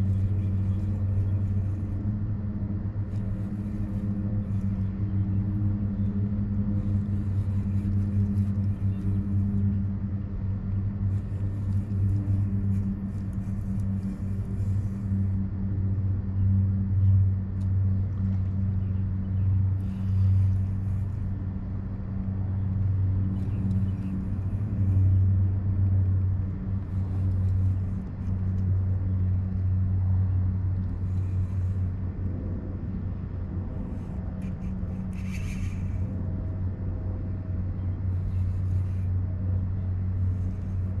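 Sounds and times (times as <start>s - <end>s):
kayak hum and rumble: 0.0s - 41.0s.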